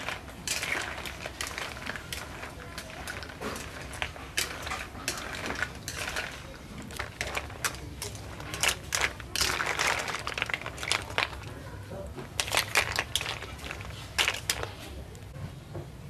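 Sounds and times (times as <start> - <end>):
snail shells clacking in a wok: 0.0 - 15.4.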